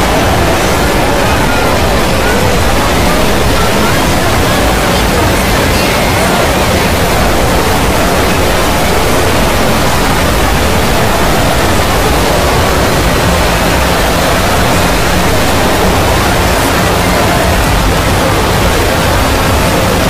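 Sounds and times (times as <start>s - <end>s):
overlapping cartoon soundtracks din: 0.0s - 20.0s.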